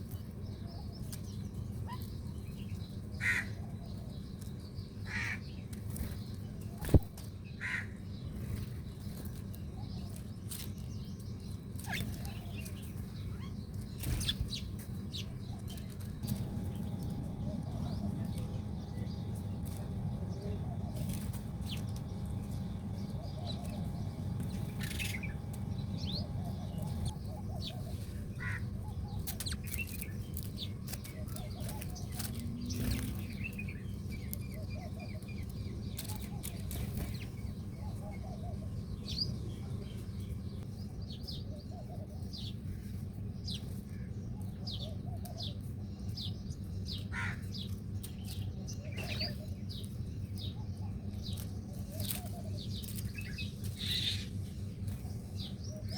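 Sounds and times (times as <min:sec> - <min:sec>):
low background rumble: 0:00.0 - 0:55.9
small birds chirping: 0:00.0 - 0:55.9.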